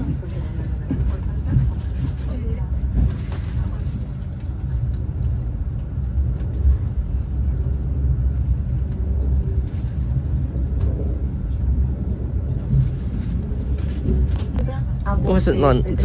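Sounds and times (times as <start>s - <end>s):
train rumble inside coach: 0.0s - 16.0s.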